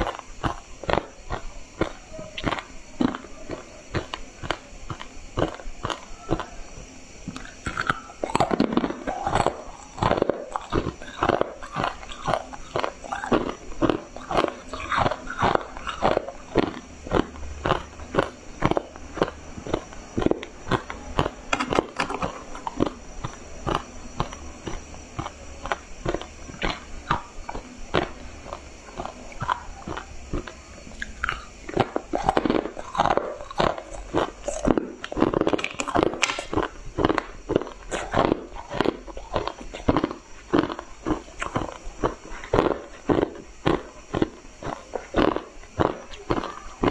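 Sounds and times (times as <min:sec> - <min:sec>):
ice crunching between teeth: 0:07.3 - 0:46.9.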